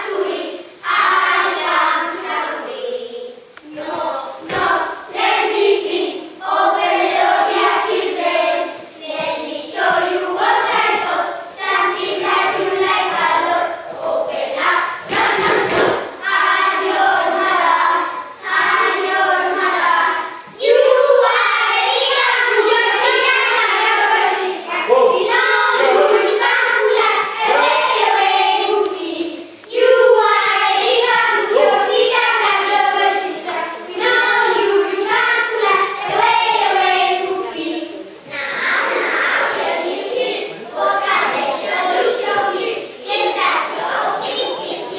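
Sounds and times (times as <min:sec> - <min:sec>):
children singing in unison: 0:00.0 - 0:44.9.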